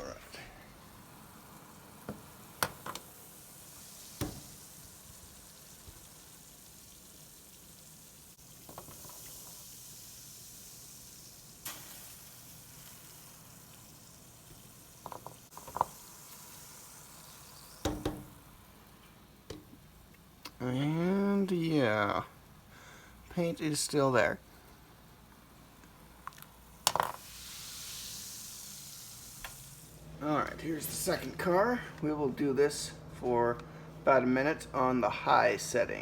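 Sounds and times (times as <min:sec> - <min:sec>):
water boiling and bubbling: 0:00.0 - 0:23.3, 0:24.3 - 0:30.2.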